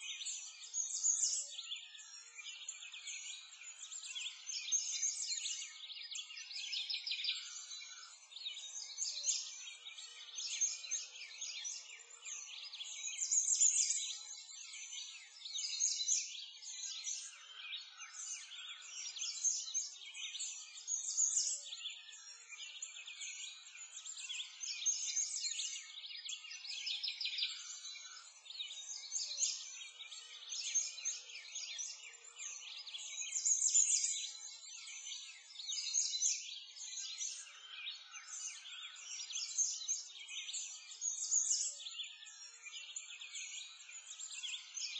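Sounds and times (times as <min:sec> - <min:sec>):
many birds chirping: 0:00.0 - 0:44.9.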